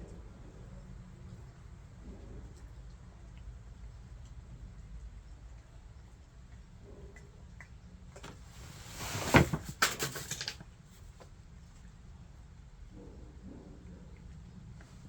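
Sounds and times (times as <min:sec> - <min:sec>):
cats eating wet food: 0:00.0 - 0:08.8, 0:10.4 - 0:15.0.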